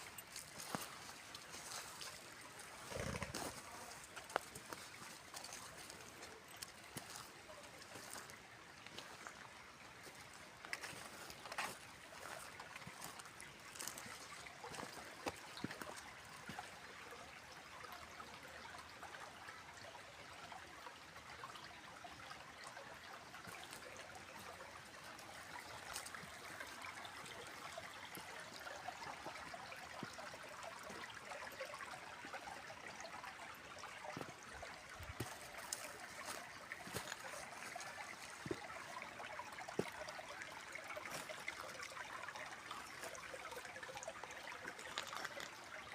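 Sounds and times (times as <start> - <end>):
stream trickling: 0.0 - 45.9.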